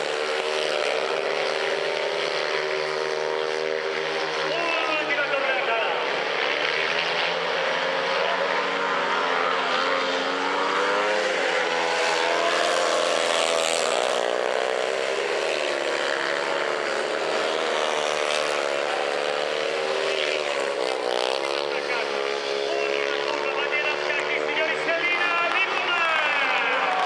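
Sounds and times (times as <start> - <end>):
motorcycle engines racing: 0.0 - 27.0.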